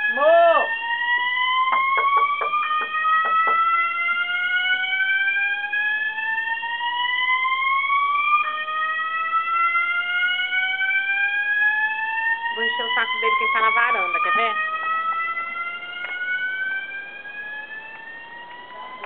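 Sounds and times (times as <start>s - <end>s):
fire alarm whooping: 0.0s - 19.0s.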